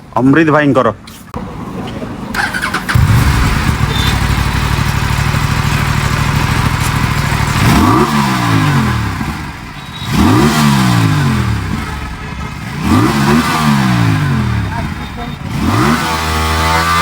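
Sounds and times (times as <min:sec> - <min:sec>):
motorcycle engine idling and revving: 0:01.4 - 0:17.0.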